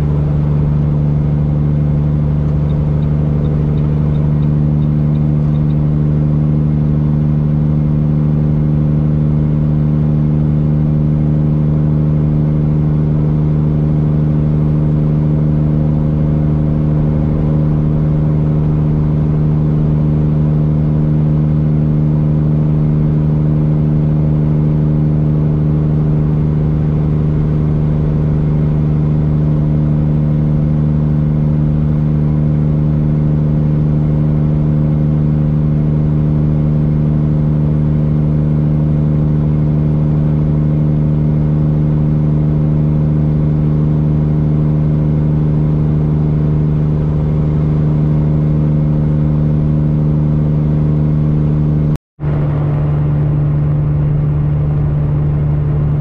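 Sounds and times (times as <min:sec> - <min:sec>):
truck diesel exhaust drone: 0:00.0 - 0:56.0.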